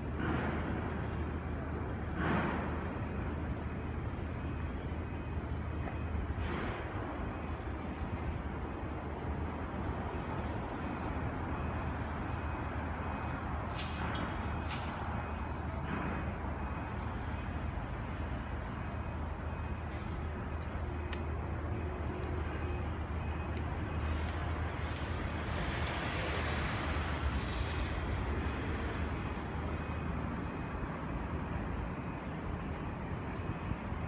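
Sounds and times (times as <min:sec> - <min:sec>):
distant traffic rumble: 0:00.0 - 0:34.0.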